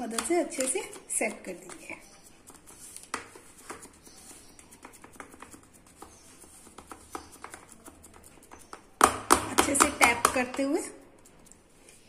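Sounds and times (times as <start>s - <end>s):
spatula tapping and scraping dough: 0.0s - 11.6s.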